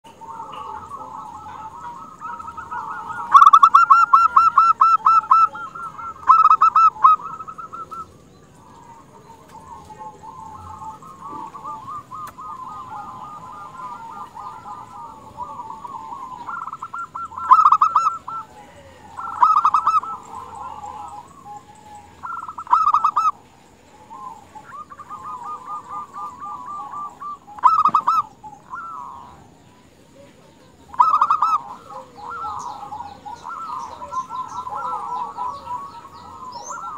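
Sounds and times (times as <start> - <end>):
dove cooing: 0.0 - 36.9
dove stuttering call bursts: 0.1 - 29.5, 30.9 - 36.9.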